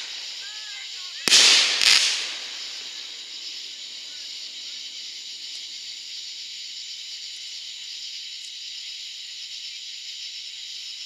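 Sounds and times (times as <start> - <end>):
night insects chirping: 0.0 - 11.0.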